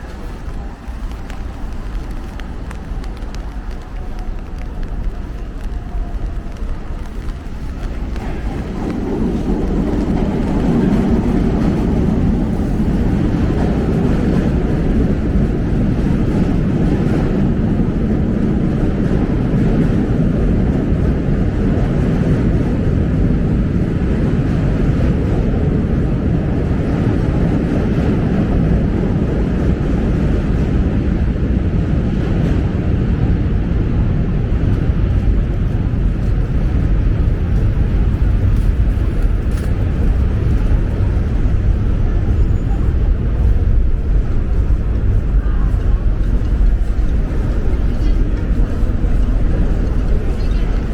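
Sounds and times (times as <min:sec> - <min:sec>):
traffic rumble: 0:00.0 - 0:50.9.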